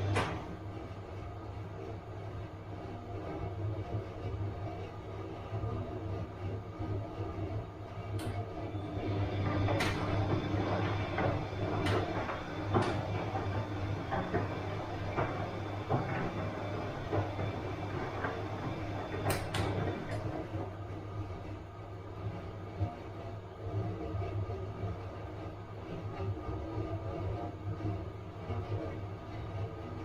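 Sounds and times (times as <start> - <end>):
washing machine motor hum: 0.0 - 30.0.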